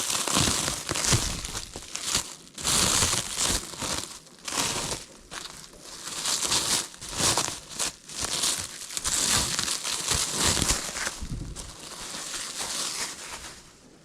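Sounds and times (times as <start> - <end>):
packaging crinkling and tearing: 0.0 - 13.7.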